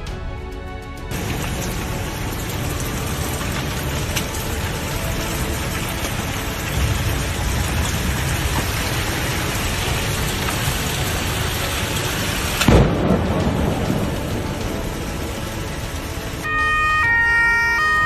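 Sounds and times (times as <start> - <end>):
heavy rain: 0.0 - 18.0
wind: 0.0 - 18.0
thunder crack and rumble: 1.1 - 16.5.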